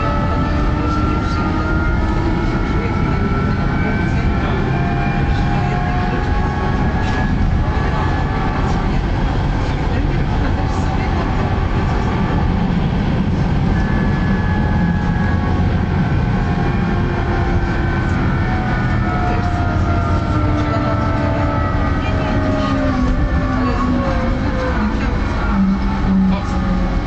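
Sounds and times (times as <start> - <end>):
tram motor whine: 0.0 - 27.0
wheels rumbling on rails: 0.0 - 27.0.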